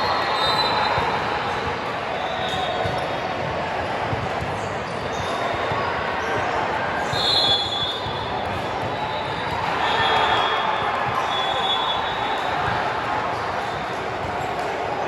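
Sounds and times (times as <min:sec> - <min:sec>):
murmur of voices: 0:00.0 - 0:15.0.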